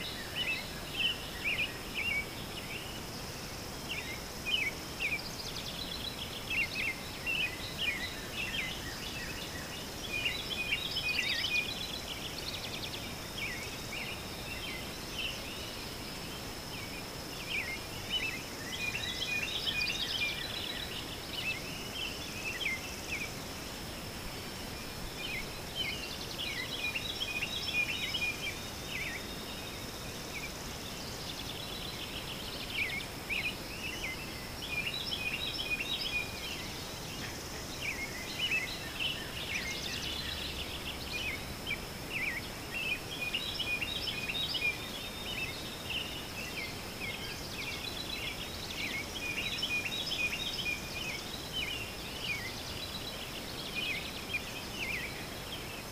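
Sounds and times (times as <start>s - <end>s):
songbirds chirping and singing: 0.0s - 55.9s.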